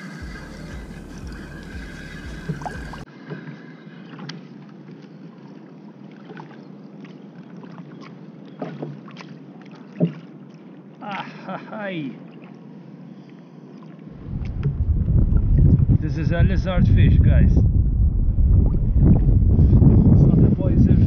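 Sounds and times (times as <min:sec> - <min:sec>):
water lapping against kayak: 0:00.0 - 0:16.0, 0:18.0 - 0:20.3.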